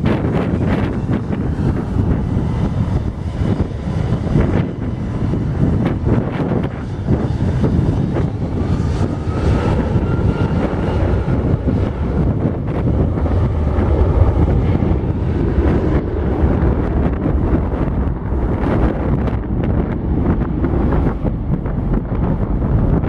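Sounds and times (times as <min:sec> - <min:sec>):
jet engines rumbling with whine: 0:00.0 - 0:23.0
wind buffeting microphone: 0:00.0 - 0:23.0.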